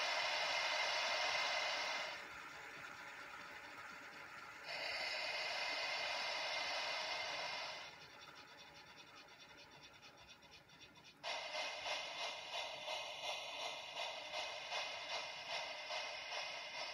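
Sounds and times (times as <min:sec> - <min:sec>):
steam hiss from small speaker: 0:00.0 - 0:08.1, 0:11.2 - 0:16.9.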